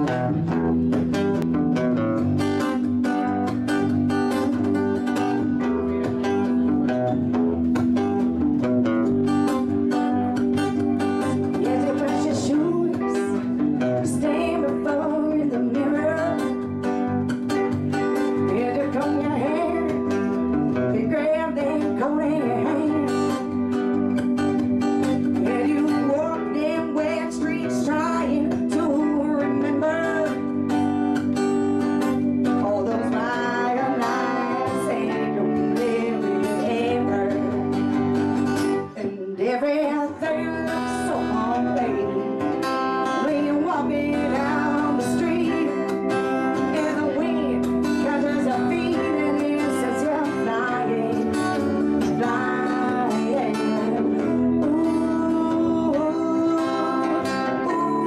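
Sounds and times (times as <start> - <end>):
keyboard: 0.0 - 58.0
mandolin: 0.0 - 58.0
strummed acoustic guitar: 0.0 - 58.0
woman singing: 9.2 - 58.0.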